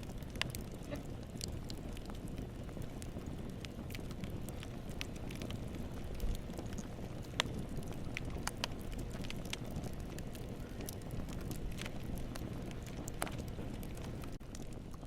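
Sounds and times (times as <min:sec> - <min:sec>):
low rumble of flames: 0:00.0 - 0:15.0
wood crackling: 0:00.0 - 0:15.0.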